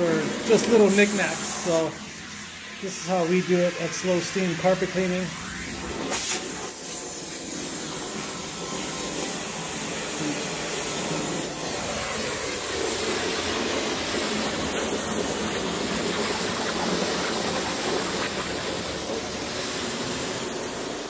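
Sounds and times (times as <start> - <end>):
vacuum suction hiss: 0.0 - 21.0.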